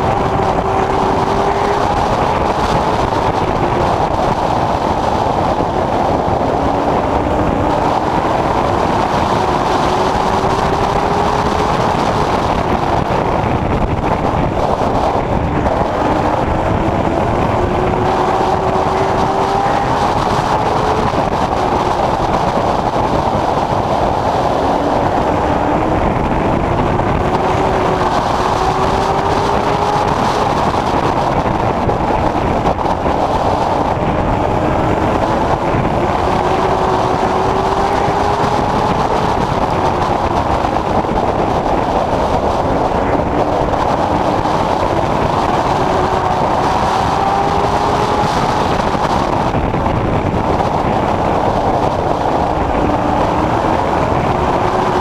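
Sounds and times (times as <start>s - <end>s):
race car engine: 0.0s - 55.0s
road and wind noise: 0.0s - 55.0s.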